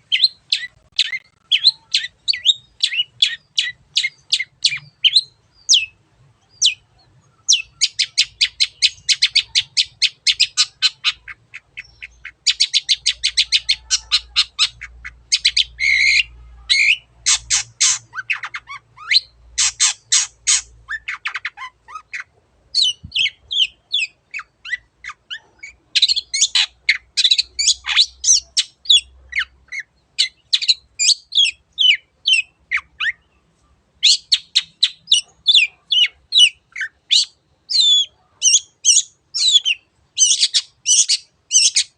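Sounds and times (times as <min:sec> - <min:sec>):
bird singing trills and squawks: 0:00.0 - 0:41.9.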